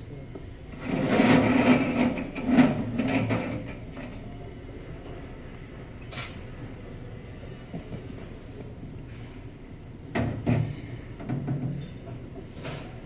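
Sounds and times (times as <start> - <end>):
workshop mechanism noise: 0.0 - 13.0.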